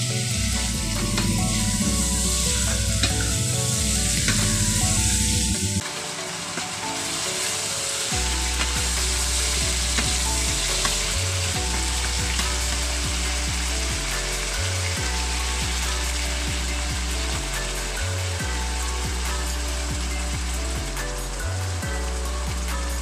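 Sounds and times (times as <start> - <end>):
background music bass line: 0.0 - 23.0
chicken sizzling in oil: 0.0 - 23.0.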